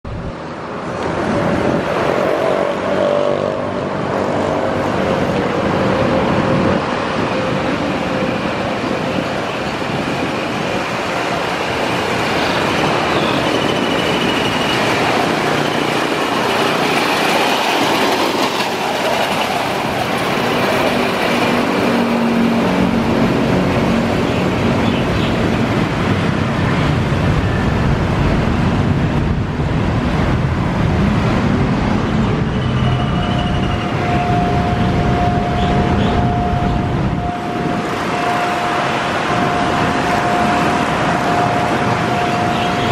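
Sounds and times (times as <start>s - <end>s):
road traffic passing: 0.0s - 42.9s
rail speeder engine hum: 0.1s - 42.9s.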